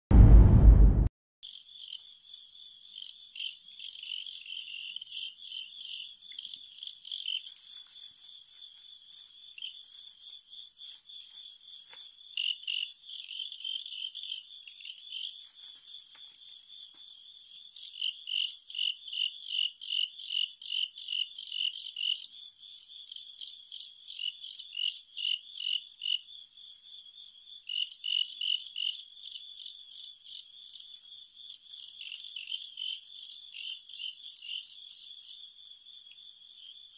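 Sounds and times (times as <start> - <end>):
crickets chirping: 1.4 - 36.9.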